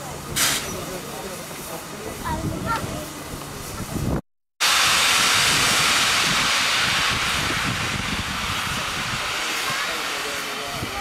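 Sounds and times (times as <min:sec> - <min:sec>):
steam hissing from locomotive: 0:00.2 - 0:11.0.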